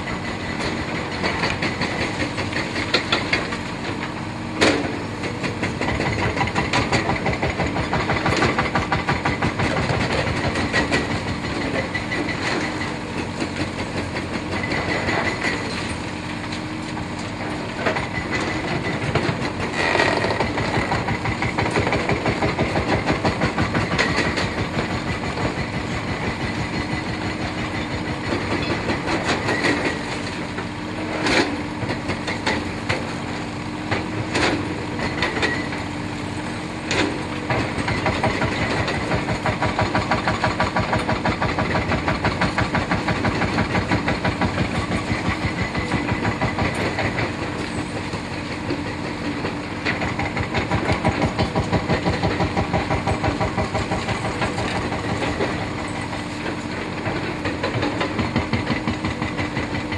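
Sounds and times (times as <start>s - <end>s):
excavator running: 0.0s - 59.9s.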